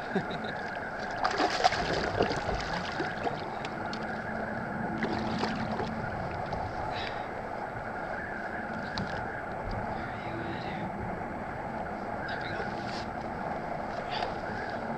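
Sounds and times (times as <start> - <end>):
water sloshing against hull: 0.0 - 14.9.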